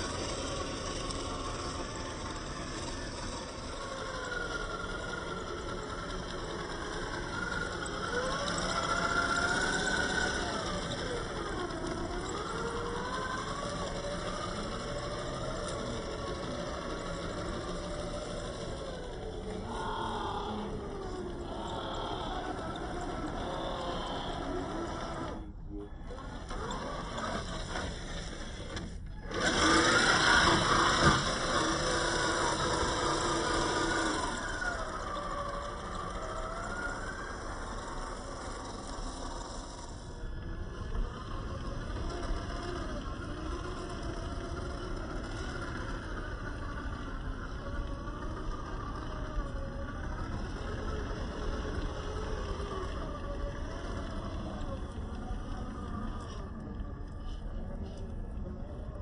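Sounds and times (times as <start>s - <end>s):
toy car motor whining: 0.0s - 59.0s.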